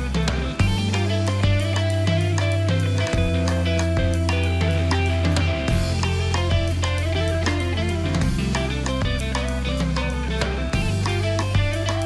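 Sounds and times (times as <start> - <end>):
drum kit and cymbal hits: 0.0 - 12.0
electric guitar lines: 0.0 - 12.0
held bass guitar note: 0.0 - 12.0.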